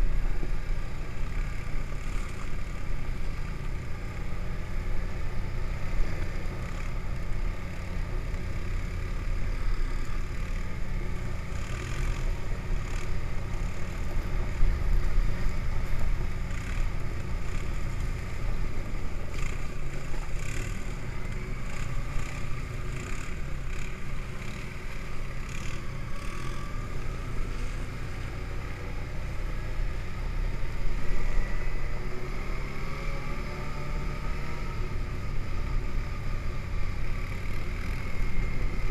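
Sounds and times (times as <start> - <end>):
quad bike engine rumbling: 0.0 - 38.9.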